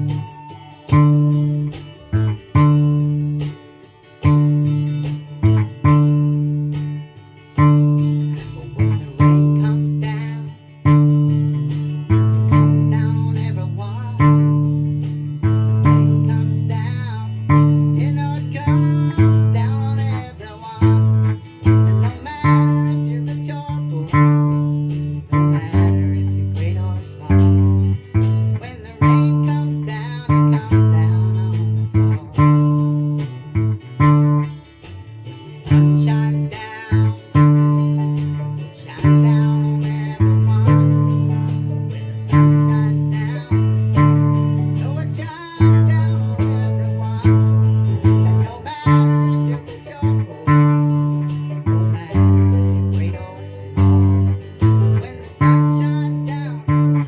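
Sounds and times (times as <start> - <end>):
ukulele plucked low notes and chords: 0.0 - 57.0.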